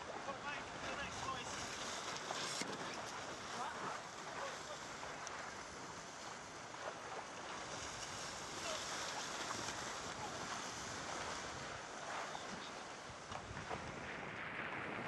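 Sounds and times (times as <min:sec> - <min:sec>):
choppy sea water: 0:00.0 - 0:15.0.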